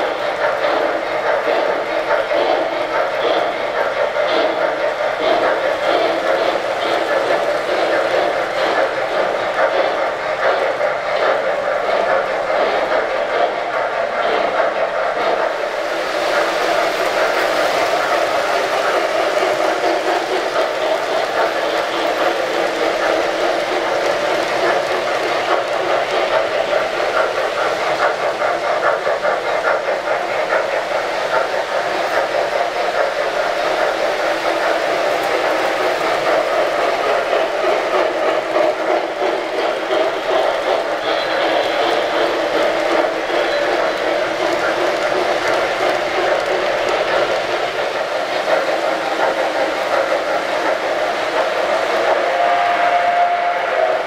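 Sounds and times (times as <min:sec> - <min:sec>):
model train rolling rumble: 0:00.0 - 0:54.0
steam locomotive chuffing: 0:00.0 - 0:54.0.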